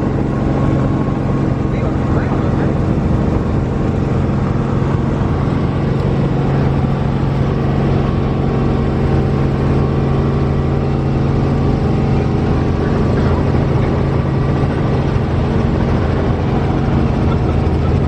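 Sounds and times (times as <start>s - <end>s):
helicopter cabin drone: 0.0s - 18.0s.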